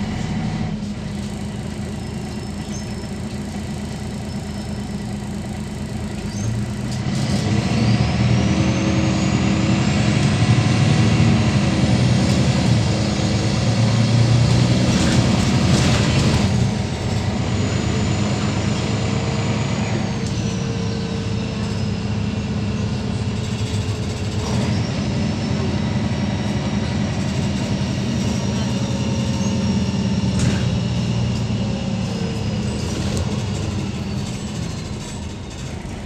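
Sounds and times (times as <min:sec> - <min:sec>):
diesel bus engine running: 0:00.0 - 0:36.0
gearbox whine gliding in pitch: 0:00.0 - 0:36.0.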